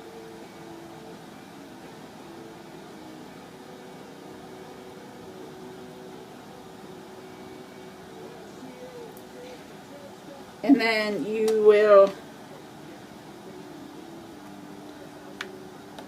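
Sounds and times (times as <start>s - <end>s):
faint steady tones: 0.0s - 16.0s
room hum and hiss: 0.0s - 16.0s.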